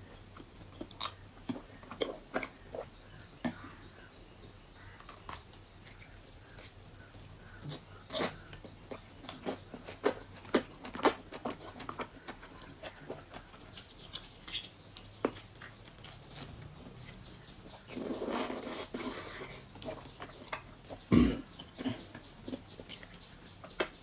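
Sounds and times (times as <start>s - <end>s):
wet chewing and smacking: 0.3s - 3.6s, 4.8s - 24.0s.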